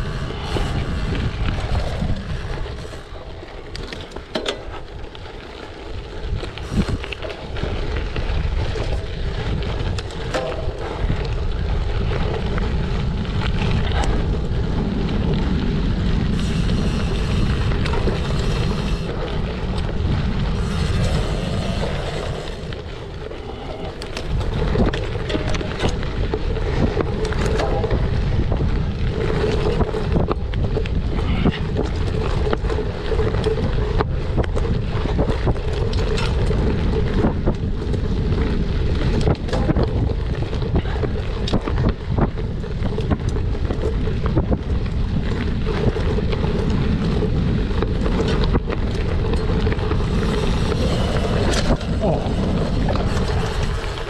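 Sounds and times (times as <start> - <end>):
bike knocks and rattles: 0.0 - 54.0
wind buffeting microphone: 0.0 - 54.0.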